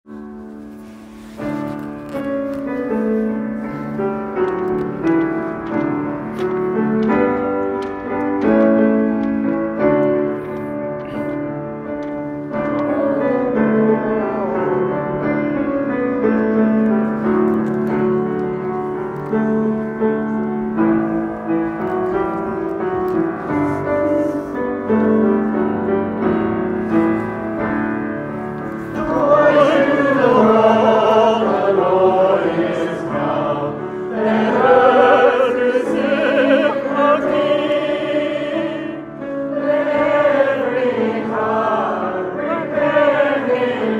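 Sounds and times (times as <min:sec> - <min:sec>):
slow piano music: 0:00.0 - 0:43.9.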